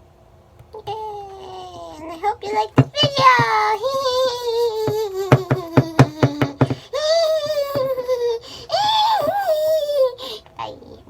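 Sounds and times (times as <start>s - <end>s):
child singing long notes: 0.8s - 10.9s.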